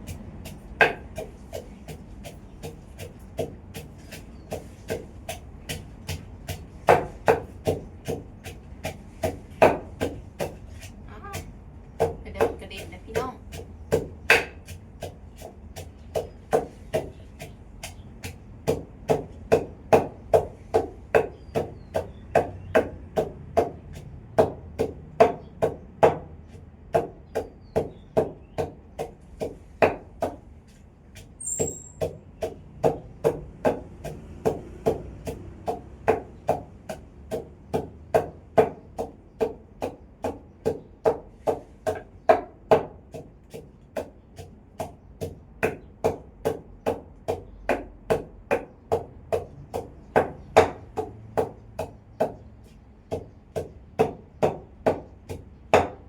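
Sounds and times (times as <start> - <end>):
pestle pounding in mortar: 0.0 - 56.0.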